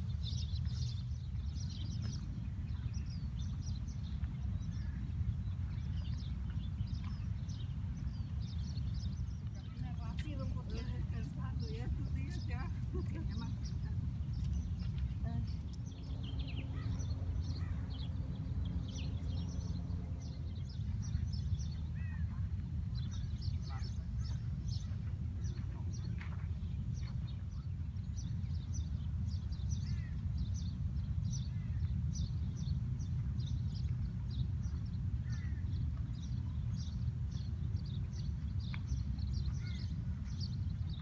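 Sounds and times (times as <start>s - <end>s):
small birds chirping: 0.0s - 41.0s
steady low rumble: 0.0s - 41.0s.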